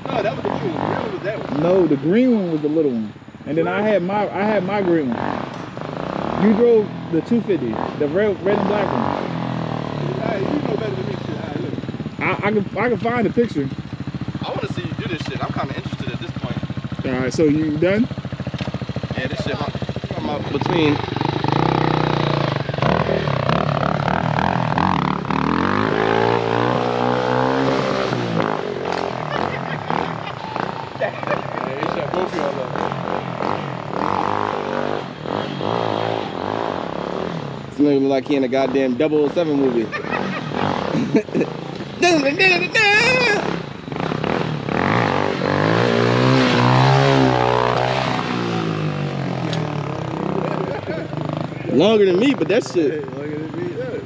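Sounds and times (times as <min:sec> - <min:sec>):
dirt bike engine accelerating: 0:00.0 - 0:54.0.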